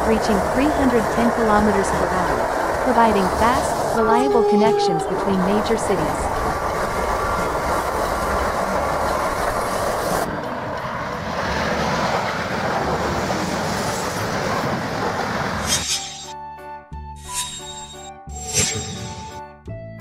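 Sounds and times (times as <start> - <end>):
high-speed train passing: 0.0 - 16.3.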